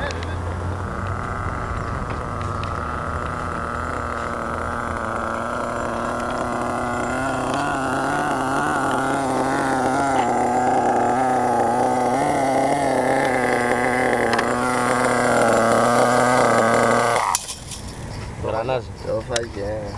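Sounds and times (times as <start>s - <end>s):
small model engine idling: 0.0s - 18.0s.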